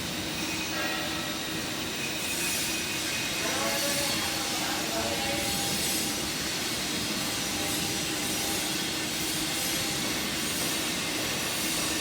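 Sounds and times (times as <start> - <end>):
industrial machinery running: 0.0 - 12.0.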